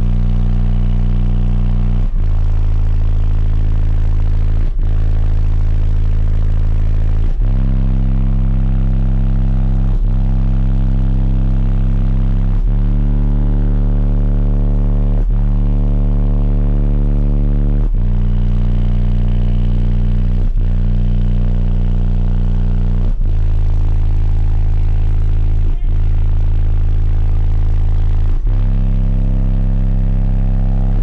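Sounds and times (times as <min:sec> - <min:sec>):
loud deep bass notes: 0:00.0 - 0:31.0.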